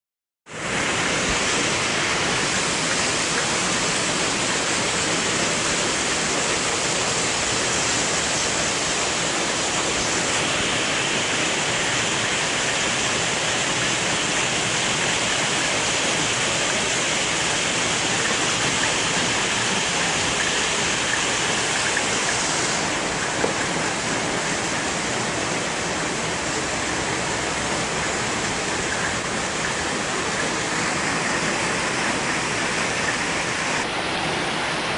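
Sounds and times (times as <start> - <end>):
rushing stream water: 0.5 - 34.9.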